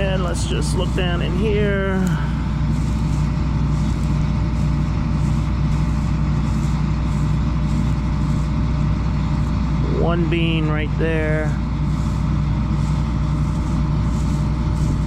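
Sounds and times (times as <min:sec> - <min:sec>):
combine harvester droning: 0:00.0 - 0:15.0
threshing machinery hissing: 0:00.0 - 0:15.0.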